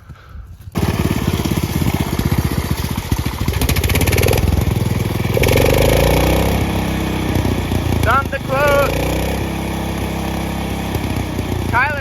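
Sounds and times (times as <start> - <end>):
lawn tractor engine running: 0.7 - 12.0.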